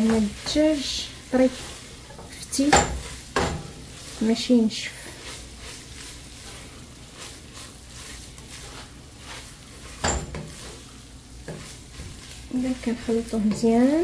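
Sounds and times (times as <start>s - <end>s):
butter sizzling: 0.0s - 14.0s
wooden spoon stirring in a pot: 0.0s - 14.0s.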